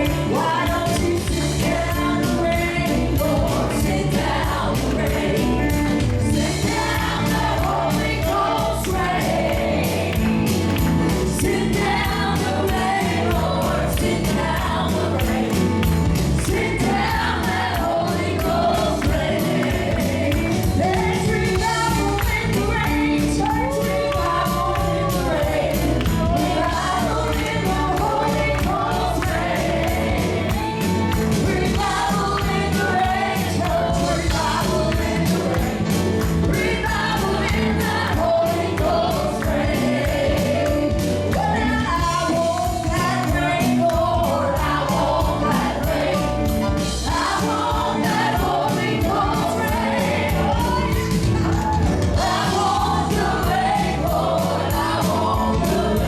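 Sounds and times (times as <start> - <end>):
choir singing gospel: 0.0 - 56.0
live band with steady beat: 0.0 - 56.0.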